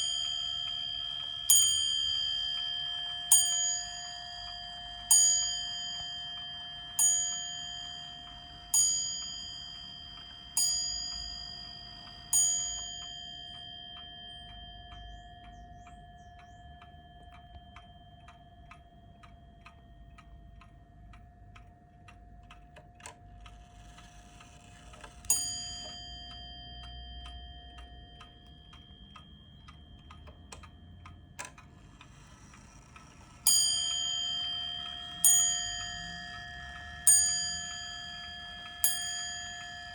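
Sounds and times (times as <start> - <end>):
wall clock bell striking: 0.0 - 19.0, 25.2 - 31.4, 32.2 - 39.9
clock ticking: 0.0 - 39.9.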